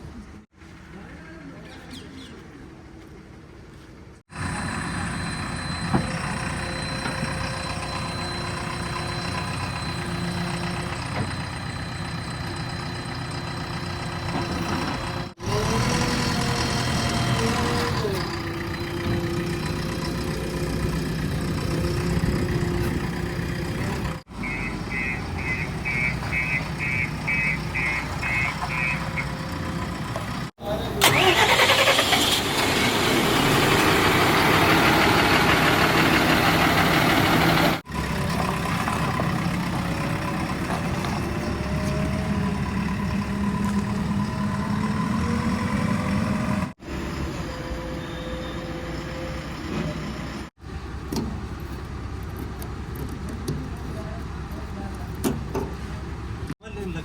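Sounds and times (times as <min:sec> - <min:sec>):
diesel engines of heavy machinery: 0:00.0 - 0:57.0.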